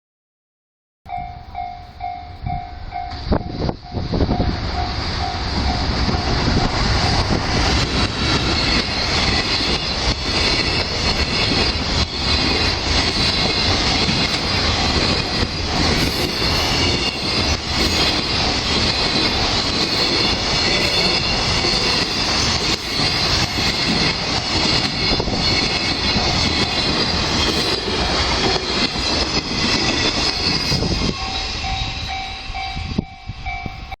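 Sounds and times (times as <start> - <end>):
crossing warning bell dinging: 1.1 - 34.0
freight train wagons rumbling: 1.1 - 34.0
train wheels squealing: 1.1 - 34.0.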